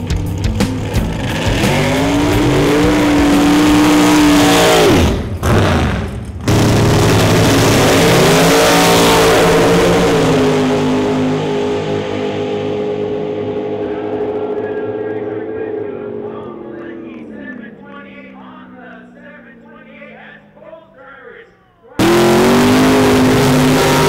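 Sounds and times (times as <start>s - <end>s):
dragster engines at full throttle: 0.0s - 24.0s.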